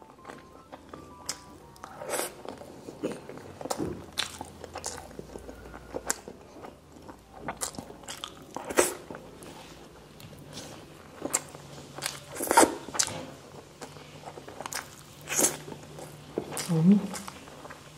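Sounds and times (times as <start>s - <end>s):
faint background music: 0.0s - 17.9s
chewing and biting: 0.2s - 17.9s.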